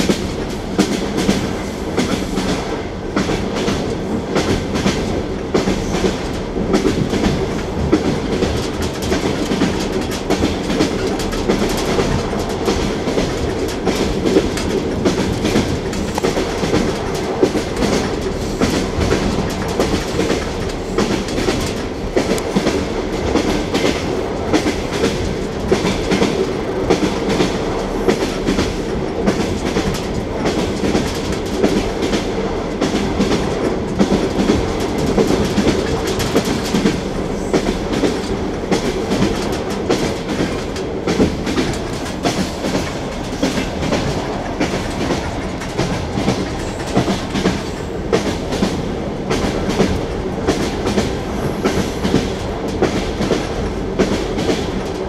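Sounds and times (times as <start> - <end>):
train wheels clickety-clack: 0.0 - 55.0.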